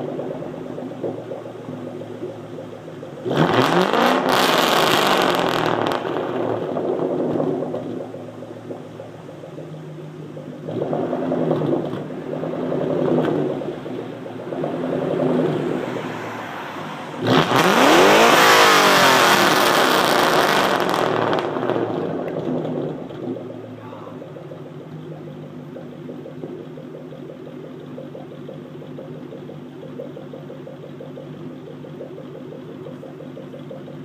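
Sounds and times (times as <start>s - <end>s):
car engine revving and idling: 0.0s - 34.0s.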